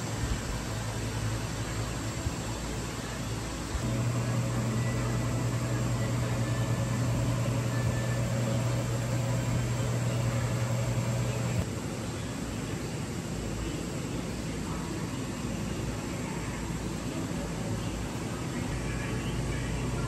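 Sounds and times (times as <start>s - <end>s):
constant hiss: 0.0s - 20.0s
low machine hum: 0.0s - 20.0s.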